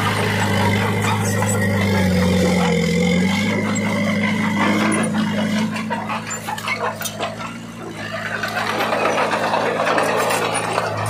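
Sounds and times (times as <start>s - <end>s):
bulldozer diesel engine running: 0.0s - 11.0s
clanking steel tracks: 0.0s - 11.0s
soil and rock being pushed: 0.0s - 11.0s.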